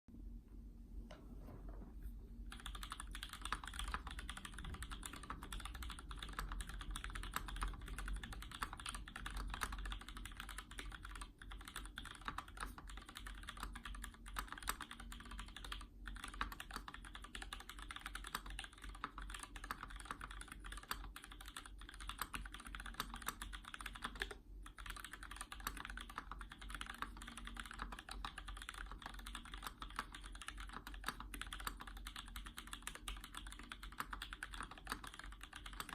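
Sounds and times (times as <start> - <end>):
fast typing on mechanical keyboard: 2.5 - 35.9.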